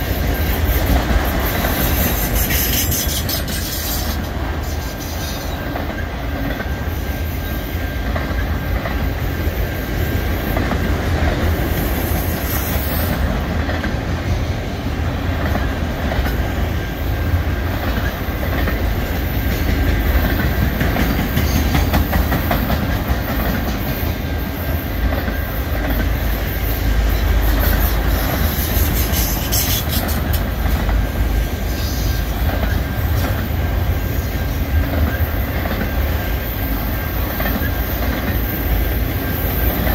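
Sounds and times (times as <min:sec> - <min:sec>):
freight train wheels clattering on rails: 0:00.0 - 0:39.9.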